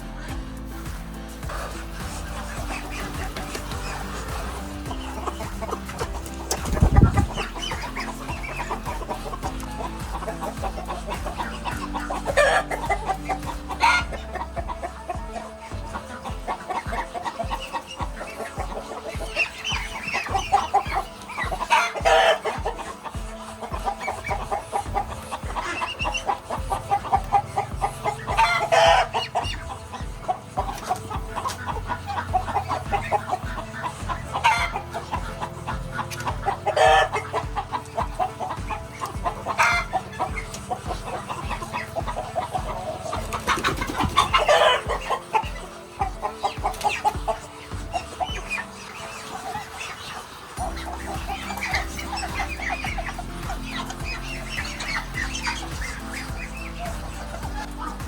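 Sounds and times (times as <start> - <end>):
background music with steady beat: 0.0 - 58.0
poultry calling: 0.0 - 58.0.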